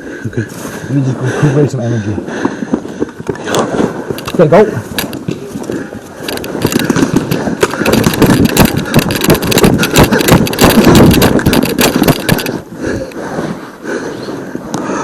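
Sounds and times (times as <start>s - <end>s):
rumble of movement noise: 2.0s - 15.0s.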